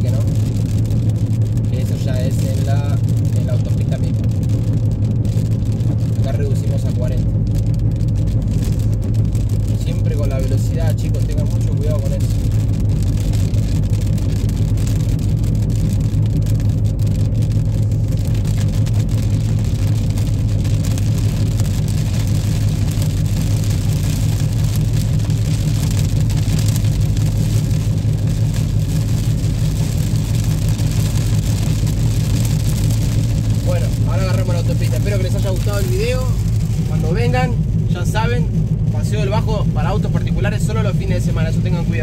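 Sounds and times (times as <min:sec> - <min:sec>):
car engine and road rumble: 0:00.0 - 0:42.0
rain and wet tyres hissing: 0:00.0 - 0:42.0.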